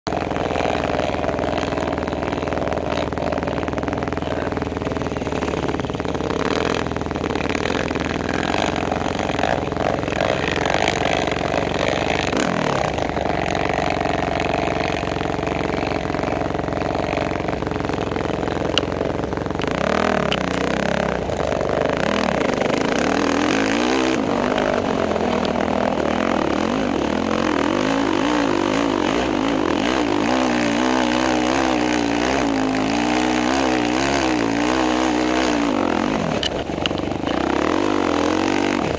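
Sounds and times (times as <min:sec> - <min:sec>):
quad engine idling and revving: 0:00.0 - 0:38.9.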